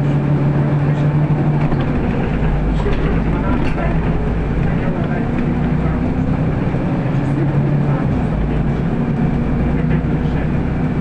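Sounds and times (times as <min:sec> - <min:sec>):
bus engine droning: 0:00.0 - 0:11.0
road and rattle noise: 0:00.0 - 0:11.0.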